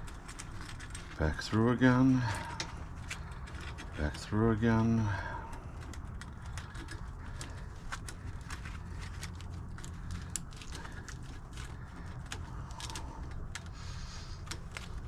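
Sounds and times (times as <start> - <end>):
metallic clicks of winch cable: 0.0 - 15.0.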